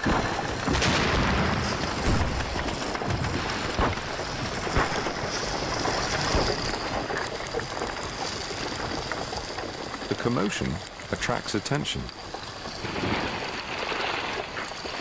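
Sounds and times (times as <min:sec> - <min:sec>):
lava crackling and hissing underwater: 0:00.0 - 0:15.0
sharp cracks of shattering rock: 0:00.0 - 0:15.0.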